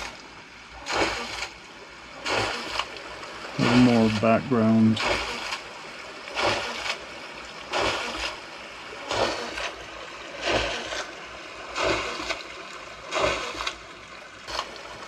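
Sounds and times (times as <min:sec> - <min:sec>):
running water: 0:00.0 - 0:15.0
water wheel splashing: 0:00.0 - 0:15.0.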